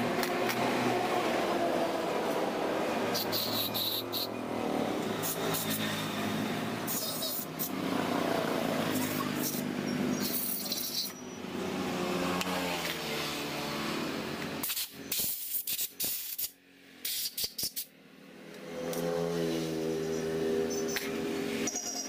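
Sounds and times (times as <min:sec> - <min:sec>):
vehicle engine humming: 0:00.0 - 0:14.7, 0:17.9 - 0:22.0.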